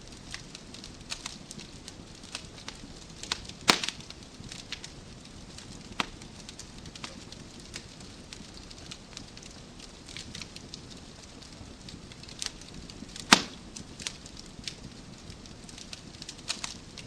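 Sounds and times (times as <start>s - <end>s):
fire popping loudly: 0.0s - 17.0s
wood fire crackling: 0.0s - 17.0s.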